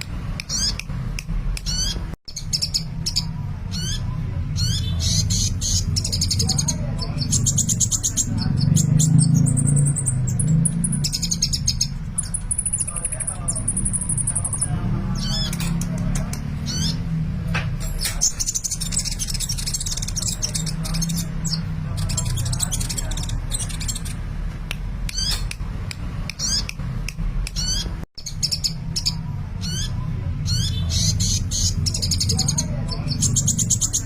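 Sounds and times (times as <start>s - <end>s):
bird chirping and trilling: 0.0s - 24.4s, 25.0s - 25.6s, 26.2s - 34.0s.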